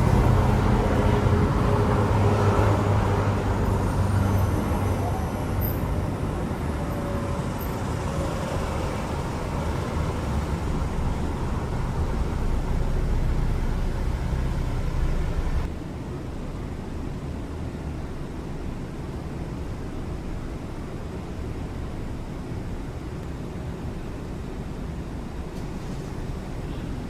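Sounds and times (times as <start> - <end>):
road traffic rumble: 0.0 - 15.8, 18.4 - 27.0.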